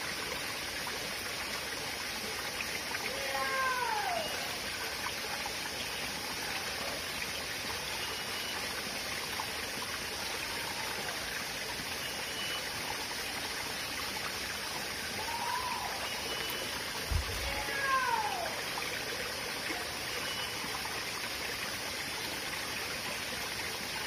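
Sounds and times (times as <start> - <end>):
stream trickling over rocks: 0.0 - 24.0.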